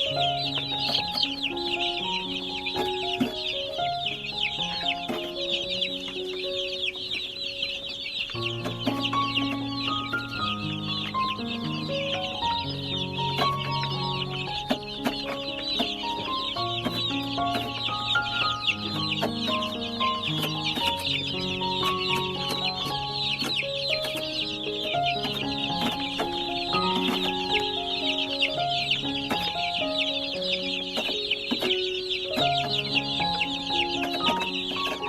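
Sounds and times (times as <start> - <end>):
baby chicks peeping: 0.0 - 35.0
background music with held notes: 0.0 - 35.0.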